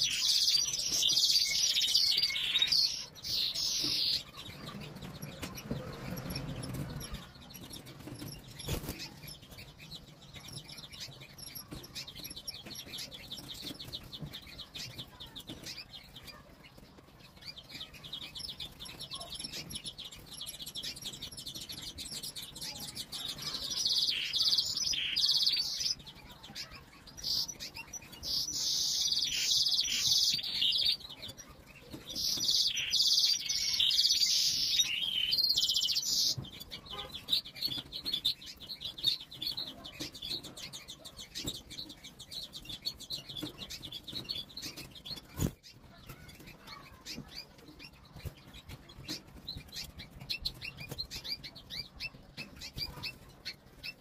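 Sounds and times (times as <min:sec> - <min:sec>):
canaries chirping: 0:00.0 - 0:54.0
canary song: 0:00.0 - 0:54.0.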